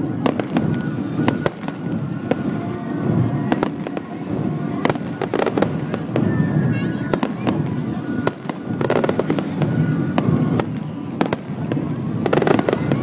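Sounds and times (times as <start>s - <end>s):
firework bangs and crackles: 0.0s - 13.0s.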